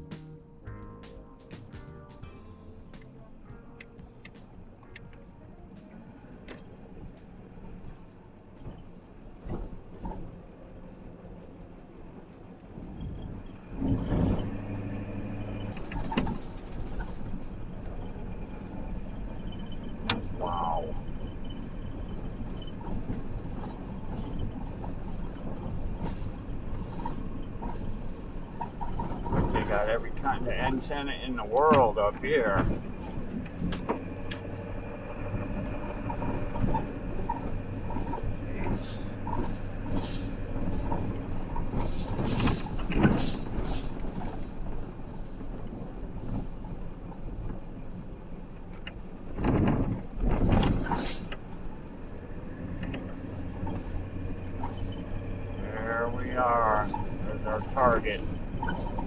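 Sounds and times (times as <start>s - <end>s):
road and engine noise in cab: 0.0s - 59.0s
faint clicks and rattles: 3.0s - 59.0s.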